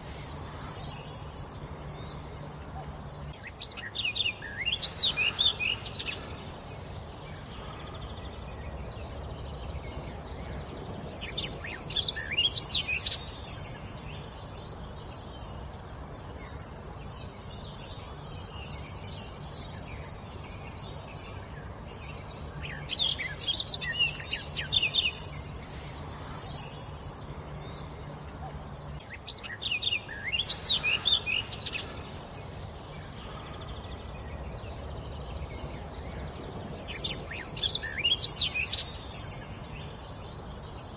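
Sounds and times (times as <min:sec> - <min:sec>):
low background hum: 0:00.0 - 0:40.9
songbird singing: 0:00.0 - 0:40.9.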